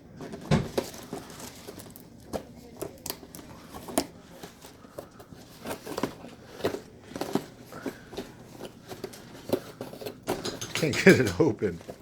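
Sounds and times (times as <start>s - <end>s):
plastic and cardboard packaging crinkling: 0.0s - 12.0s.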